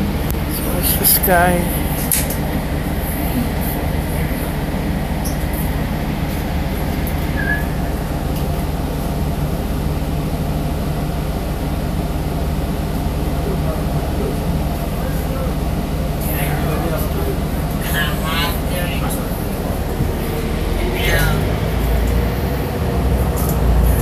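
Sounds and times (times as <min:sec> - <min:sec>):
bus engine hum: 0:00.0 - 0:24.0
road running noise: 0:00.0 - 0:24.0.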